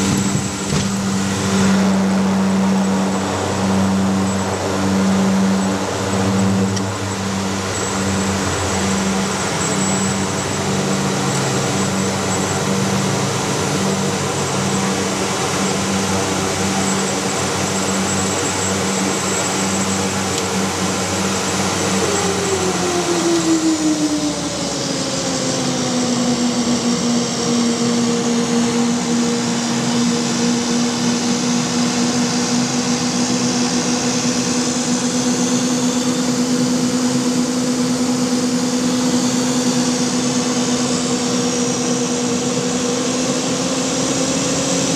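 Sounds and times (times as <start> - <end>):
turboprop engines running: 0.0 - 44.9.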